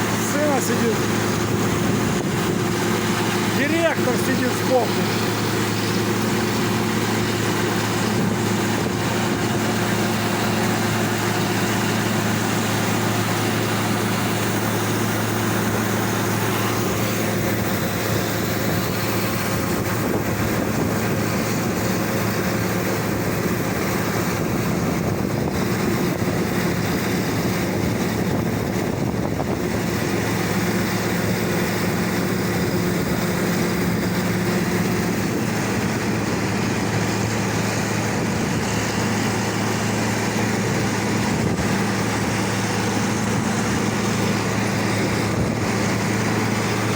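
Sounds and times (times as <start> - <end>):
vehicle engine running steadily: 0.0 - 46.9.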